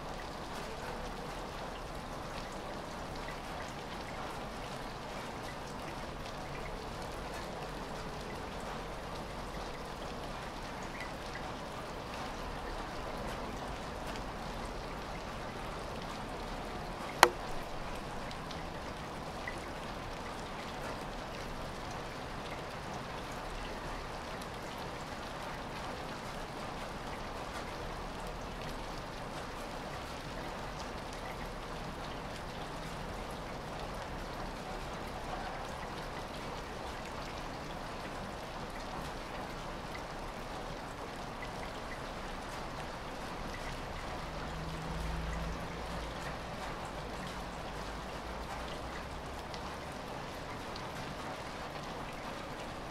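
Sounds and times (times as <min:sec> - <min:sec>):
light rain pattering: 0:00.0 - 0:52.9.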